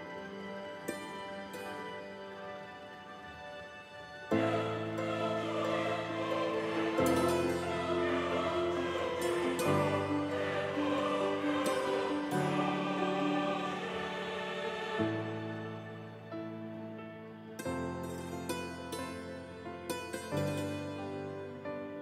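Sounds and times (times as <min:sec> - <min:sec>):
slow sustained music chords: 0:00.0 - 0:22.0.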